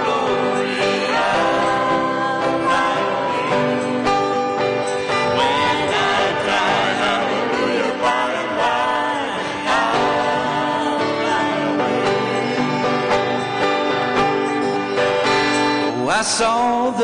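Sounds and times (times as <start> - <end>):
instrumental accompaniment: 0.0 - 16.5
voices singing gospel: 0.0 - 17.0.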